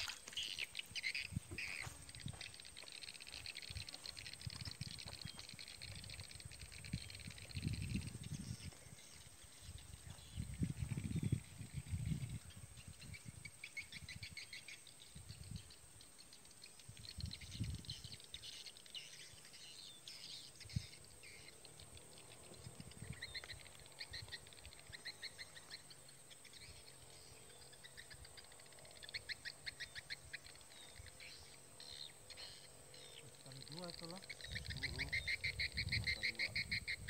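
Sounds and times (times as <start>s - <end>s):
birds chirping: 0.0s - 37.0s
high insect-like whine: 0.0s - 37.0s.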